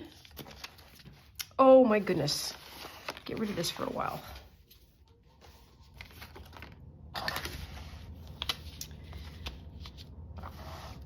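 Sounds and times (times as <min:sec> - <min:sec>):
paper rustling: 0:00.0 - 0:01.4, 0:02.0 - 0:11.0.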